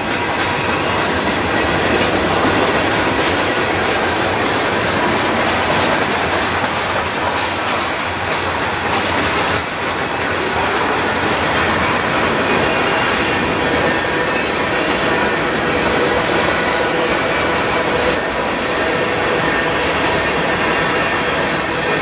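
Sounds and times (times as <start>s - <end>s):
steel wheels rolling on rail: 0.0s - 22.0s
wheels clicking over rail joints: 0.0s - 22.0s.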